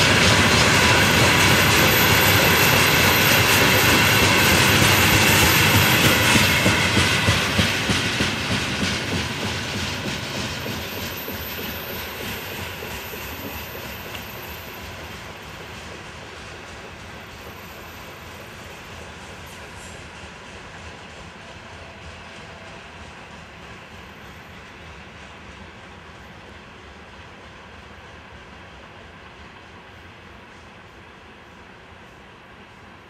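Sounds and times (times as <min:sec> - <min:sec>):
train wheels clicking on rails: 0:00.0 - 0:33.0.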